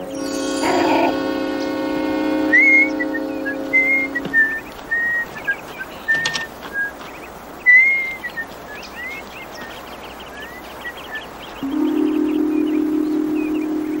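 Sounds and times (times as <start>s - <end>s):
bird whistled notes: 0.0s - 7.0s, 7.6s - 9.2s, 10.3s - 14.0s.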